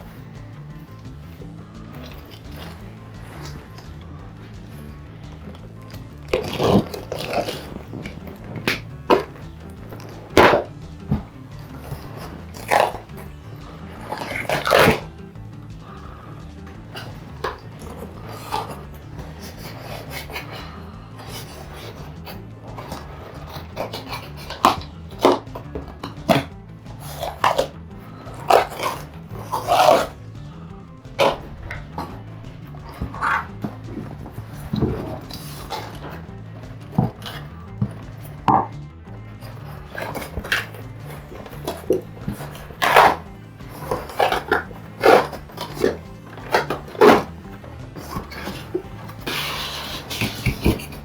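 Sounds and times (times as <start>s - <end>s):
background music with bass line: 0.0s - 51.0s.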